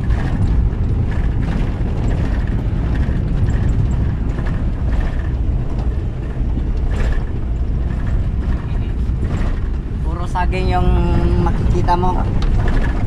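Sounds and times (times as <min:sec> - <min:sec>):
body rattling: 0:00.0 - 0:13.0
van engine and tyres rumbling: 0:00.0 - 0:13.0.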